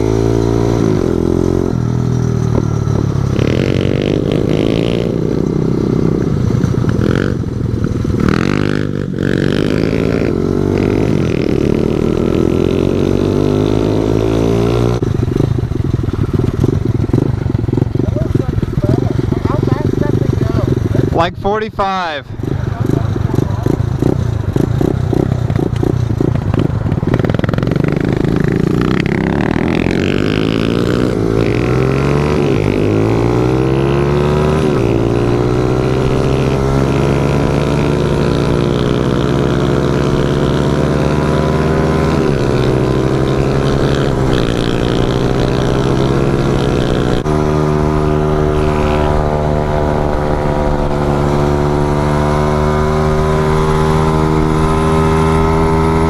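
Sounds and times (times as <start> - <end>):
pit bike engine shifting gears: 0.0 - 21.6, 22.2 - 56.0.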